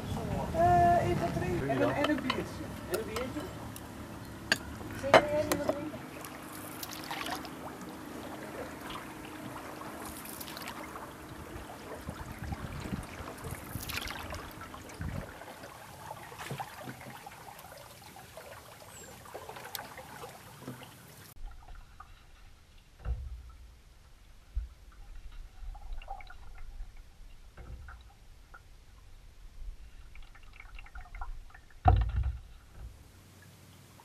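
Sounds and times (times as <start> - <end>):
water trickling and splashing: 0.0 - 34.0.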